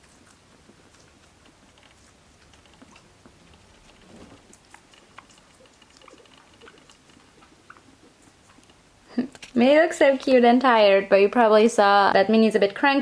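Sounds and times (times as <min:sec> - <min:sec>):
guinea pigs chewing food: 0:00.0 - 0:11.4.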